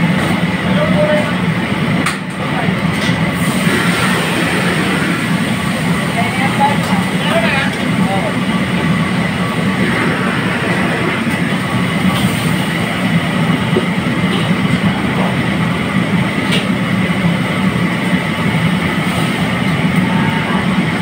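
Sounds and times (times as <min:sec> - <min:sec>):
gas wok range roaring: 0:00.0 - 0:21.0.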